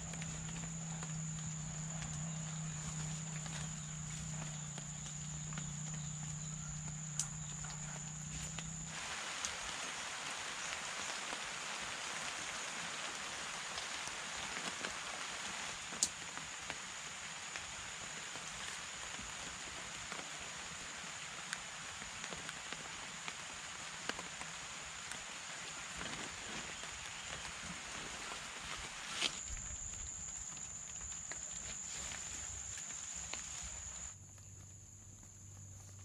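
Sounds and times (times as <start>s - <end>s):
drops ticking on tarp: 0.0s - 36.0s
rain falling on a tarp: 0.0s - 36.0s.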